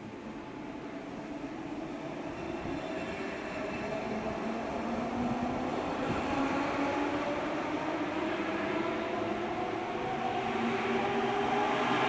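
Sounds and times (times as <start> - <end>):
train running and wheel noise: 0.0 - 12.0.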